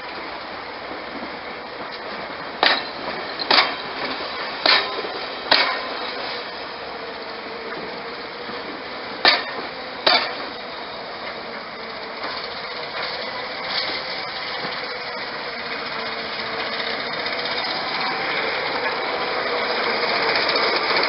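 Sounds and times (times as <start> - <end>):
diesel train running: 0.0 - 21.0
loud metallic clanks: 2.6 - 21.0.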